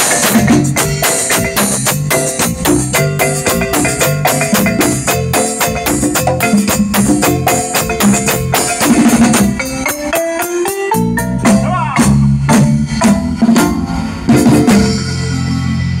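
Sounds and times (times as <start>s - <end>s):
congas: 0.0s - 16.0s
drum kit: 0.0s - 16.0s
marimba melody: 0.0s - 16.0s.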